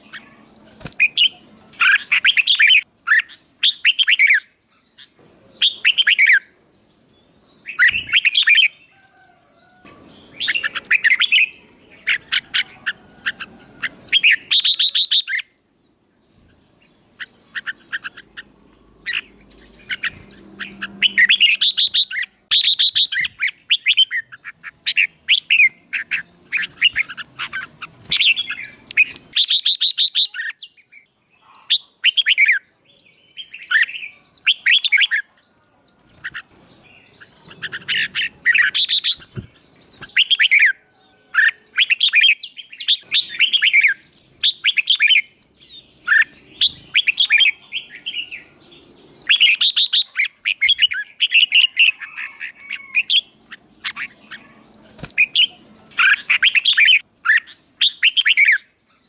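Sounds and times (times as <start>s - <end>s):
songbird chirping and whistling: 0.0s - 59.0s.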